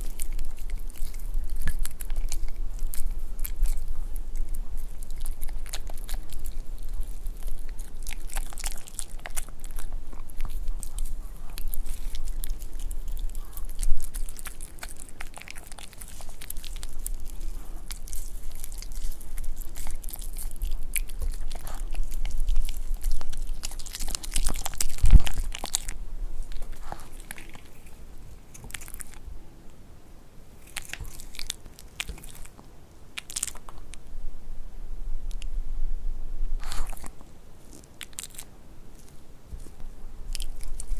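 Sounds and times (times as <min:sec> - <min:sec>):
dog chewing and crunching: 0:00.0 - 0:29.3, 0:30.6 - 0:34.1, 0:36.6 - 0:40.9.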